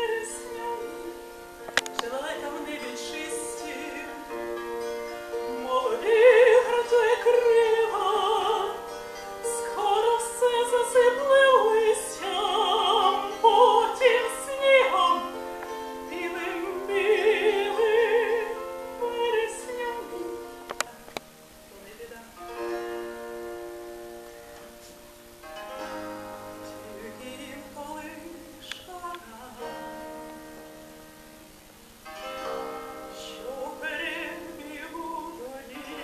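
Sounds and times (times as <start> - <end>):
woman singing with vibrato: 0.0 - 23.3, 26.5 - 31.0, 32.4 - 36.0
plucked strings: 0.0 - 36.0.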